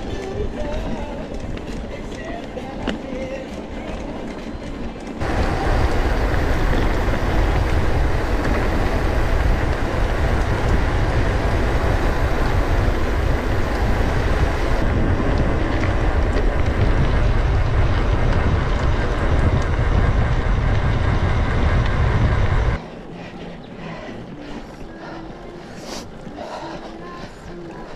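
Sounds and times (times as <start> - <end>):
bike rattling over rough ground: 0.0 - 27.9
wind buffeting microphone: 0.0 - 27.9.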